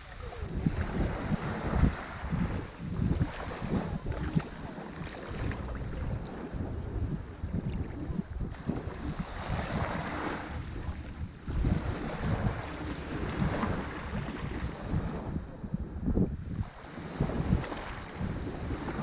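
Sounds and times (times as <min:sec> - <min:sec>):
ocean waves breaking: 0:00.0 - 0:15.8, 0:16.6 - 0:19.0
wind buffeting microphone: 0:00.0 - 0:19.0.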